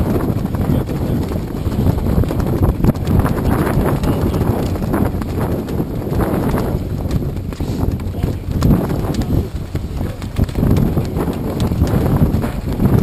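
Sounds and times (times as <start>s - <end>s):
knocks and thumps: 0.0s - 13.0s
wind noise on microphone: 0.0s - 13.0s.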